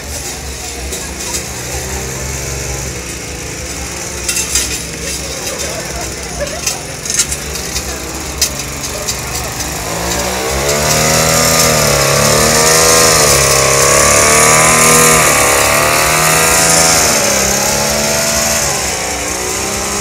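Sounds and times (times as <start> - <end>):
small engine revving: 0.0 - 20.0.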